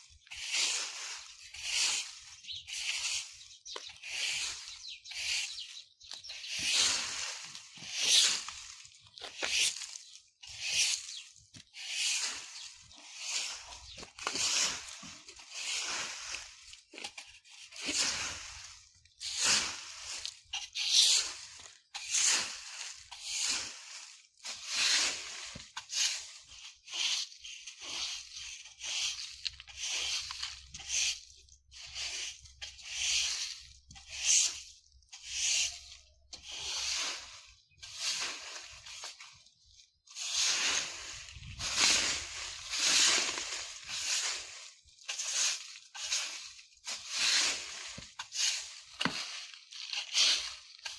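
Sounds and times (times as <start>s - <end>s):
broom sweeping dry leaves: 0.0s - 50.9s.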